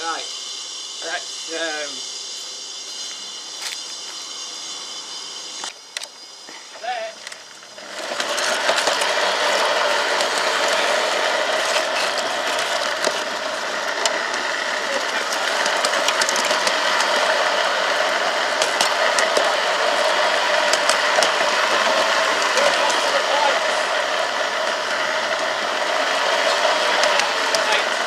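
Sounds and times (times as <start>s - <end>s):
model locomotive drive whirring: 0.0s - 28.0s
wheels clicking on rails: 0.0s - 28.0s.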